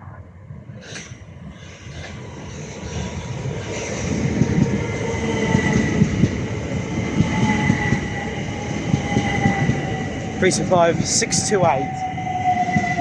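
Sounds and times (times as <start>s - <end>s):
train wheels rumbling on rails: 0.5s - 13.0s.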